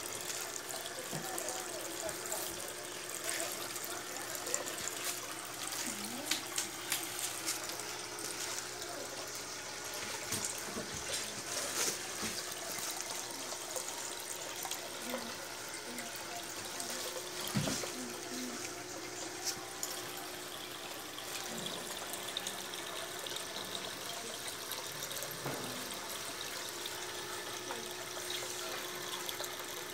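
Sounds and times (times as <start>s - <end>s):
fountain water trickling and splashing: 0.0s - 29.9s.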